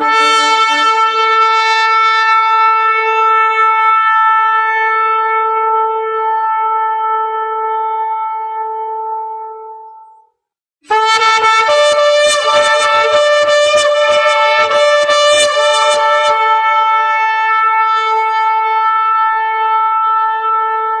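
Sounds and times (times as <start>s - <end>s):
long horn-like blast: 0.0s - 9.8s, 10.9s - 21.0s.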